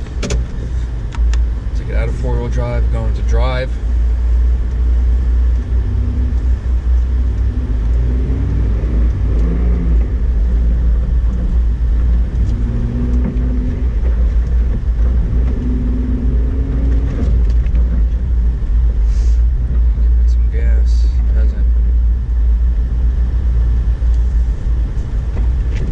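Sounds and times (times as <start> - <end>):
truck engine rumbling: 0.0 - 25.9.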